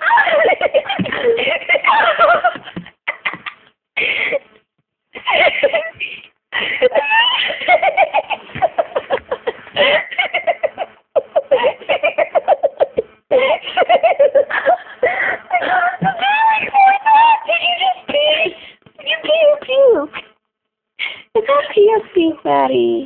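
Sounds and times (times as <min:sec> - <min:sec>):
girls giggling: 0:00.0 - 0:04.5, 0:05.1 - 0:19.6.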